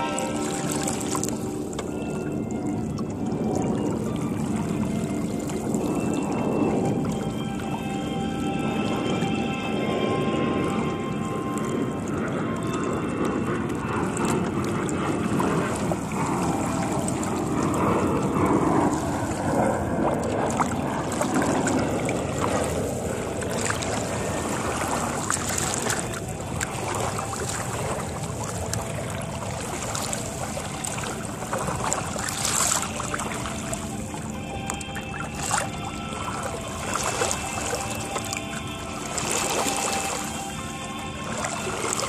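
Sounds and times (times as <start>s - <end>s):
water rushing along boat hull: 0.0s - 42.0s
wind noise on microphone: 0.0s - 42.0s.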